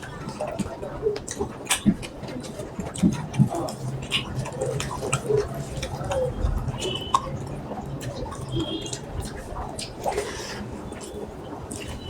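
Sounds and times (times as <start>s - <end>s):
wet chewing and lip-smacking: 0.3s - 12.0s.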